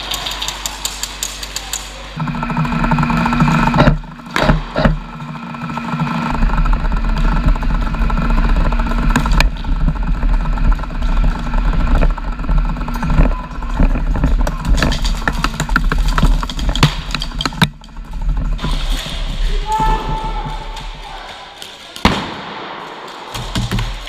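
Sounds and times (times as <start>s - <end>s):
mechanical drive drone: 0.0s - 21.0s
sharp clicks and knocks: 0.0s - 24.0s.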